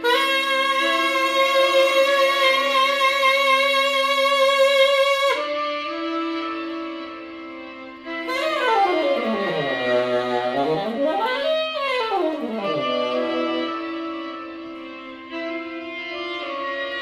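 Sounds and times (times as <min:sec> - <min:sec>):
electronic tenor saxophone: 0:00.0 - 0:17.0.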